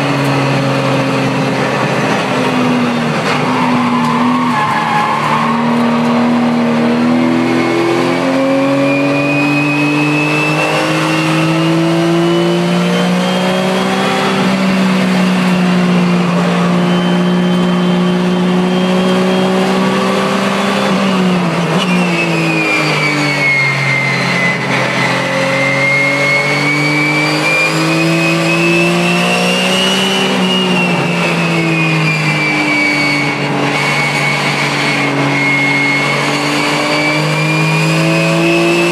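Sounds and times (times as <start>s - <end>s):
racing car engine revving: 0.0s - 38.9s.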